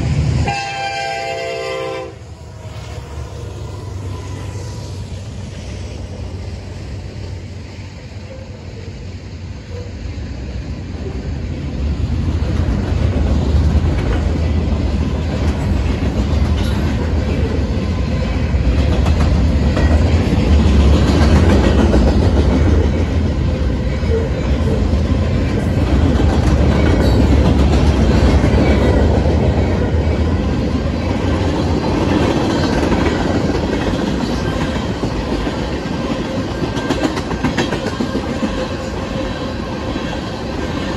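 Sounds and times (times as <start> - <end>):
freight train wheels on rails: 0.0 - 40.9.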